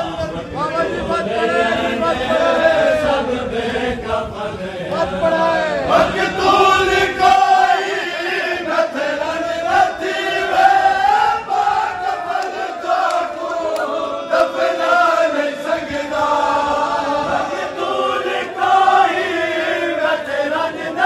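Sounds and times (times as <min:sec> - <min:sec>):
men chanting a lament: 0:00.0 - 0:21.0.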